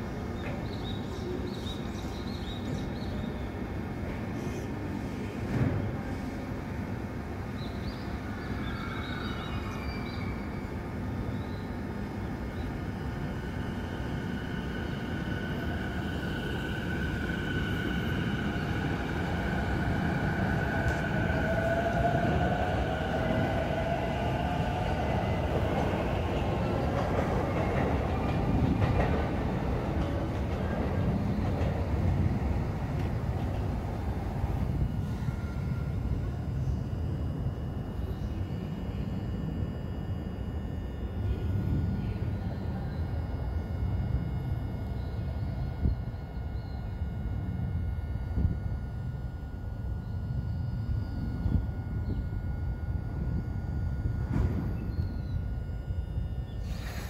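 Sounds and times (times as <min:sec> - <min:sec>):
electric train whine: 0:00.0 - 0:57.0
train low rumble: 0:00.0 - 0:57.0.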